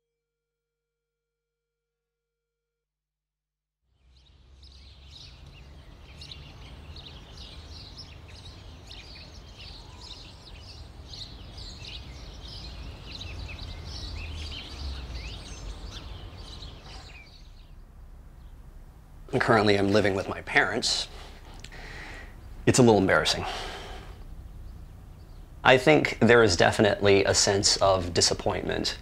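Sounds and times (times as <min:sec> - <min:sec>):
birds chirping: 0:03.9 - 0:29.0
steady low rumble: 0:04.0 - 0:29.0.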